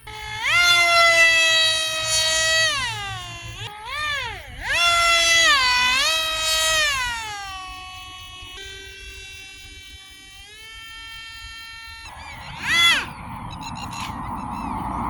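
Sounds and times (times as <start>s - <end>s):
electric ducted fan whining: 0.0s - 15.0s.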